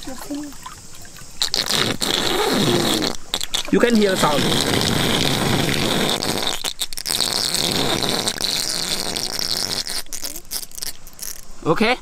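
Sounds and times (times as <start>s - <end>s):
water gurgling into pipe: 0.0s - 11.5s.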